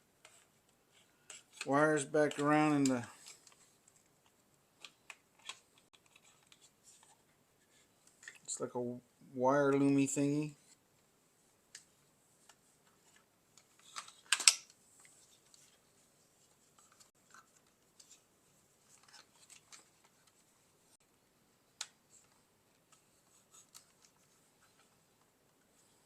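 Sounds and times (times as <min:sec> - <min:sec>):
rustling of wires and parts: 0:00.1 - 0:08.7, 0:09.7 - 0:26.0.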